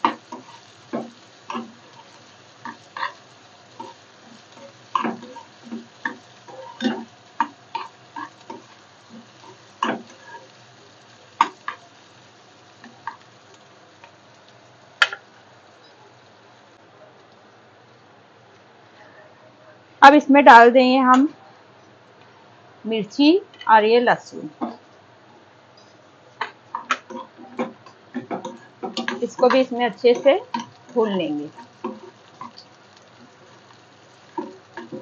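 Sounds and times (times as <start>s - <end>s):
onions sizzling in oil: 0.0s - 18.6s, 22.8s - 35.0s.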